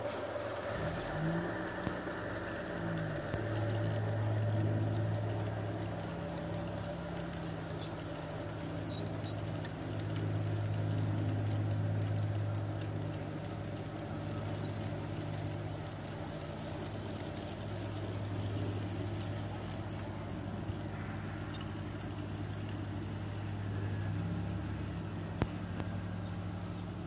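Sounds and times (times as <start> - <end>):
model train hum: 0.0 - 27.0
wheels clicking over rail joints: 0.0 - 27.0.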